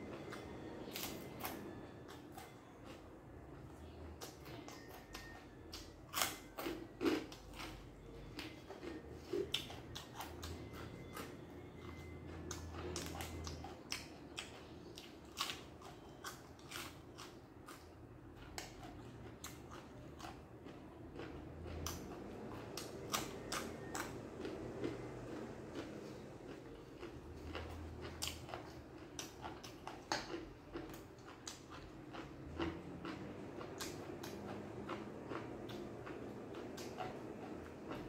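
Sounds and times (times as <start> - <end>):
person chewing crunchy vegetables: 0.0 - 38.0.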